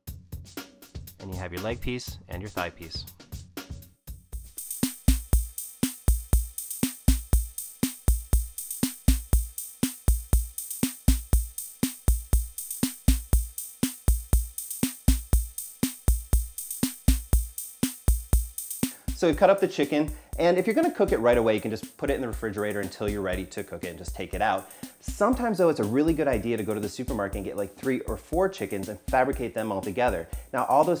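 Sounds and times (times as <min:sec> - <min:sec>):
drum machine beat: 0:01.0 - 0:31.0.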